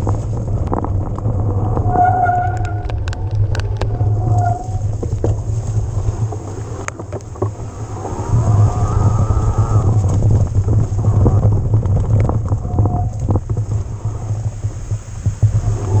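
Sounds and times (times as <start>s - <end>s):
bike rattling and knocking: 0.0s - 16.0s
wind rumble on microphone: 0.0s - 16.0s.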